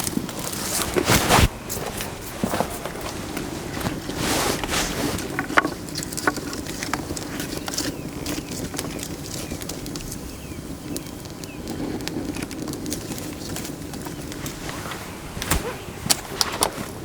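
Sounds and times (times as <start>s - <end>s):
cooking fire crackling: 0.0s - 17.0s.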